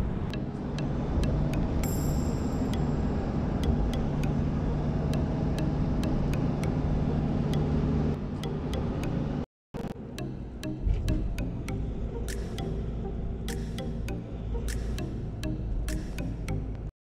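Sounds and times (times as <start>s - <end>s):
car cabin road and engine noise: 0.0s - 16.9s.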